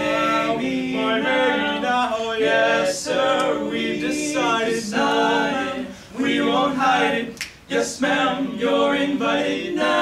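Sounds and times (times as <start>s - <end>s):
men singing a cappella harmony: 0.0s - 10.0s.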